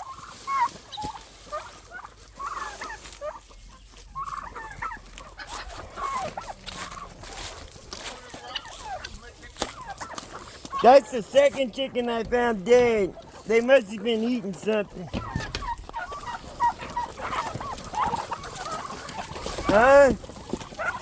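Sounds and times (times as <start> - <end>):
chickens and turkeys calling: 0.0 - 21.0.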